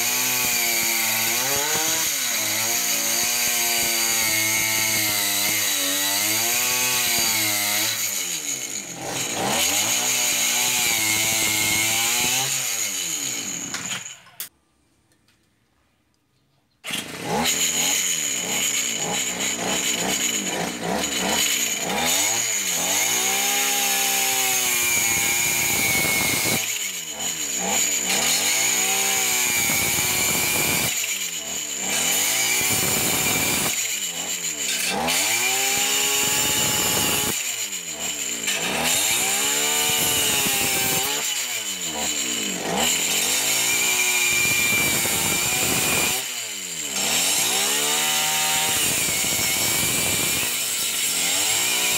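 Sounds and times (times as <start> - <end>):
brushcutter engine revving: 0.0 - 14.2, 16.8 - 51.9
chainsaw chain cutting wood: 0.0 - 14.5, 16.8 - 51.9.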